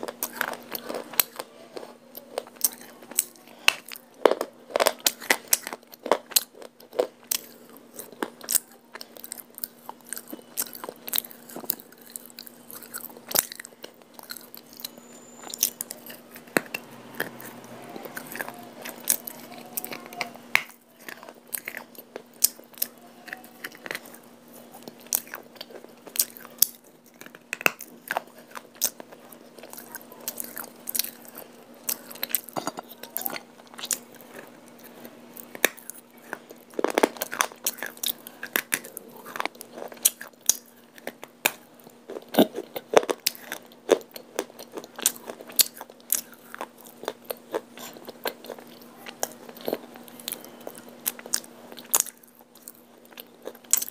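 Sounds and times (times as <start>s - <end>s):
faint steady hum: 0.0s - 53.9s
person crunching chewing clay: 0.0s - 53.9s.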